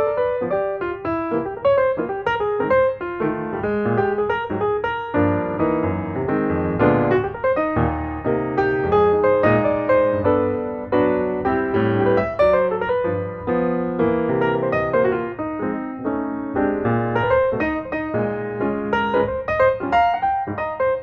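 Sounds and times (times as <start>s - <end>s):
piano melody with chords: 0.0s - 21.0s.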